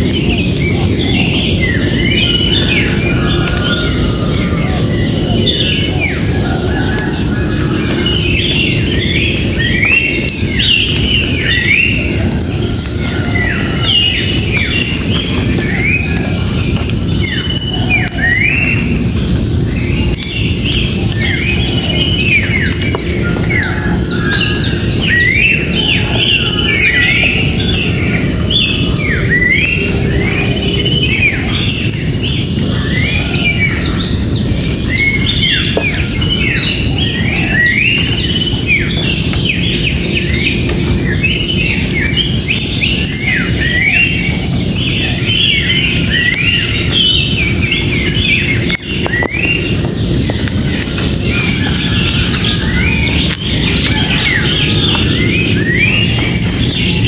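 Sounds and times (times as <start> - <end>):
birds chirping and calling: 0.0 - 57.0
steady high hiss: 0.0 - 57.0.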